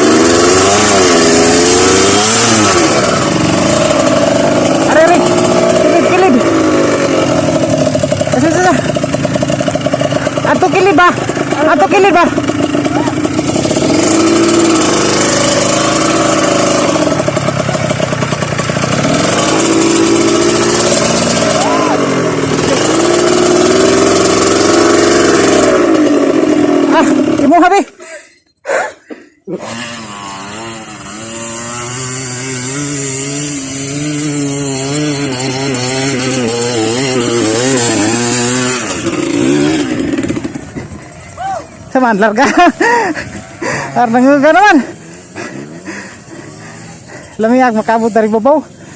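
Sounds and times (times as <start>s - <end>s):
off-road vehicle engine revving: 0.0s - 28.0s, 29.5s - 48.9s.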